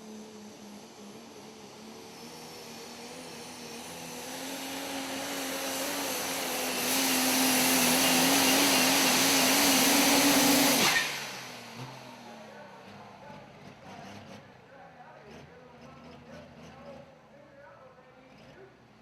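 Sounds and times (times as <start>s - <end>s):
diesel truck engine at full power: 0.0s - 19.0s
high turbo whine: 0.0s - 19.0s.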